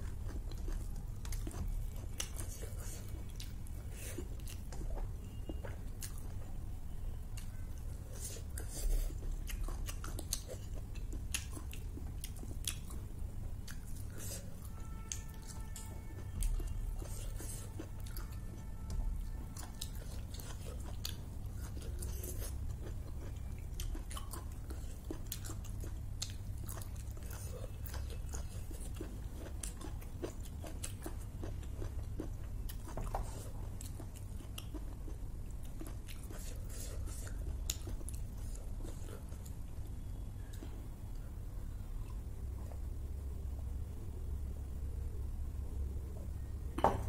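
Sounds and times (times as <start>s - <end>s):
person chewing: 0.0s - 42.9s
low steady hum: 0.0s - 47.0s.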